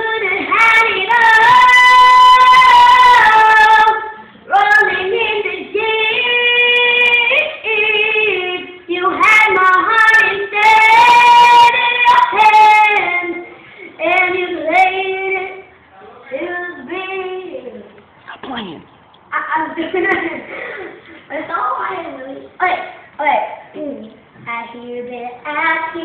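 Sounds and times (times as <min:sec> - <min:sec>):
girl singing unaccompanied: 0:00.0 - 0:18.2, 0:19.3 - 0:26.0.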